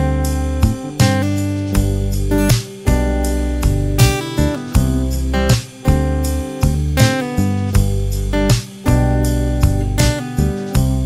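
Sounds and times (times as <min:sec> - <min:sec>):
strummed guitar music: 0:00.0 - 0:11.0.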